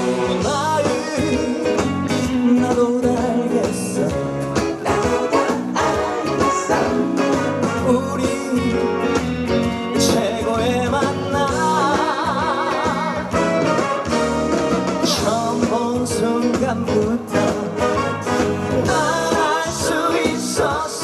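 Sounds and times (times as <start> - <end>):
person singing: 0.0 - 9.2, 9.9 - 13.7, 15.0 - 18.1, 18.7 - 21.0
band backing track: 0.0 - 21.0.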